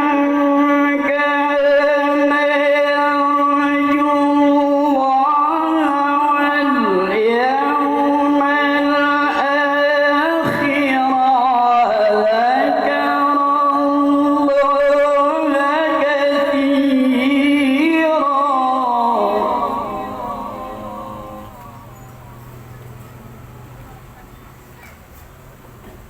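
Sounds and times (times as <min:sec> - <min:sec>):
man reciting in melodic chant: 0:00.0 - 0:22.7.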